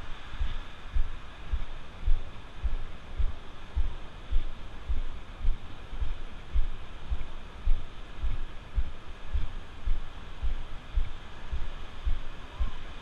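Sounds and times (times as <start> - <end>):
surf and wind hiss: 0.0 - 13.0.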